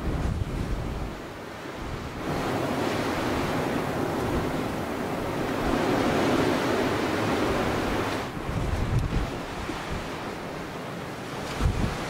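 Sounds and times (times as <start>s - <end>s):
blizzard wind rushing: 0.0s - 12.0s.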